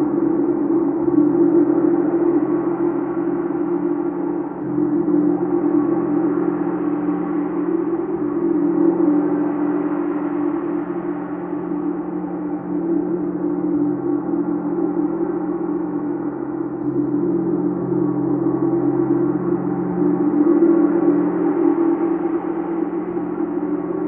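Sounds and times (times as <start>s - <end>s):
gong sustained wash: 0.0s - 24.0s.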